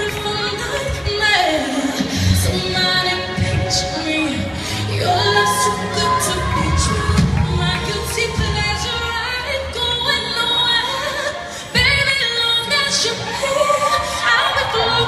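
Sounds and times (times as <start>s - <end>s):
song with female vocals: 0.0s - 15.0s.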